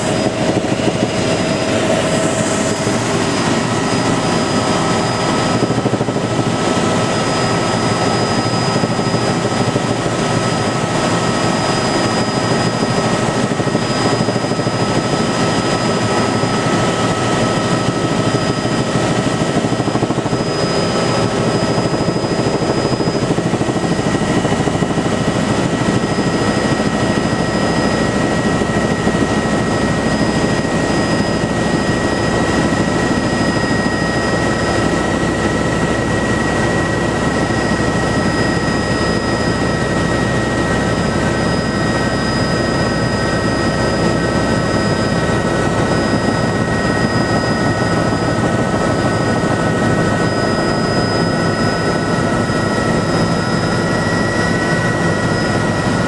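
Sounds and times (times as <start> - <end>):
helicopter turbine whine: 0.0 - 56.0
rotor and airflow noise: 0.0 - 56.0.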